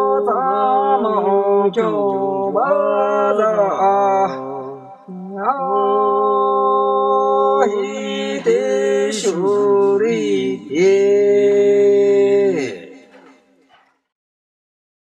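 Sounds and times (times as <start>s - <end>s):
man singing long held notes: 0.0s - 13.1s.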